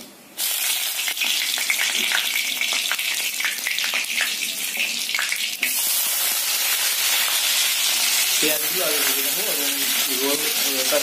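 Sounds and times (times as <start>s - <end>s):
spices sizzling in hot oil: 0.4s - 11.0s.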